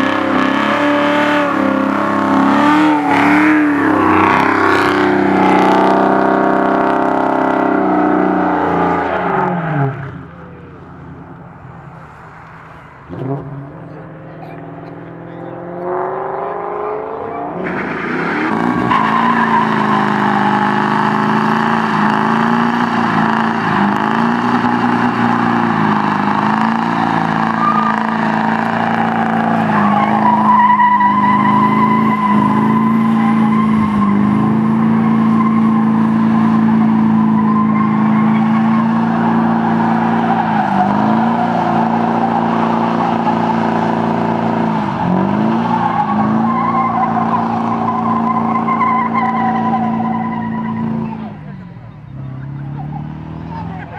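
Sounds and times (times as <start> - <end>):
pickup engine at high revs: 0.0 - 10.2, 13.0 - 51.6
tire squeal: 0.0 - 10.8, 11.5 - 53.9.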